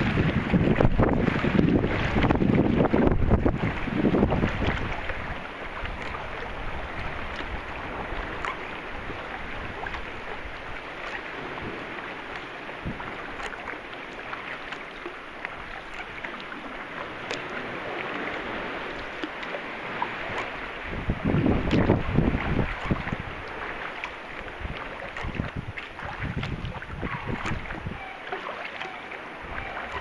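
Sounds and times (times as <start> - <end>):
water drips and splashes: 0.0 - 30.0
water lapping against hull: 0.0 - 30.0.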